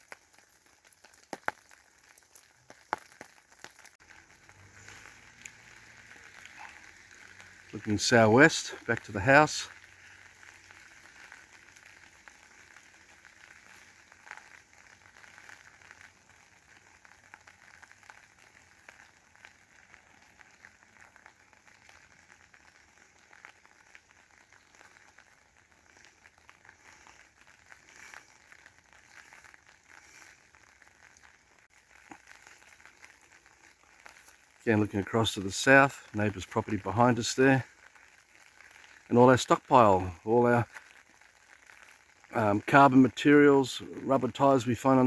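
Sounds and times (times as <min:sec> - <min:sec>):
fine crackles: 0:00.0 - 0:42.5
low steady hiss: 0:00.0 - 0:45.0.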